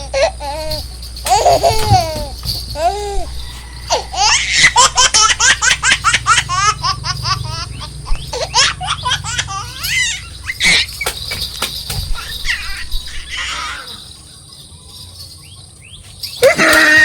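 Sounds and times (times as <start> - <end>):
high-pitched laughter: 0.0 - 11.0, 12.1 - 14.2, 16.4 - 17.0.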